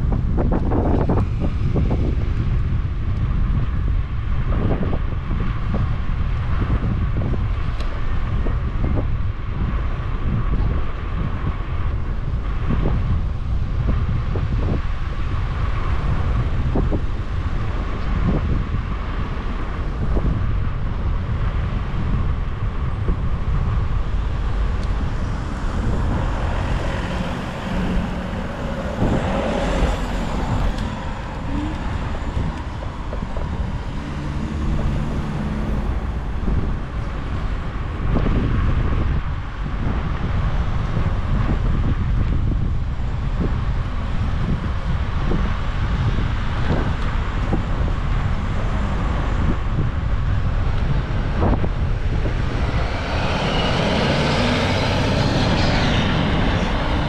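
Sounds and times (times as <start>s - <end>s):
passing motor traffic: 0.0s - 57.0s
road rumble: 0.0s - 57.0s
wind on microphone: 0.0s - 57.0s.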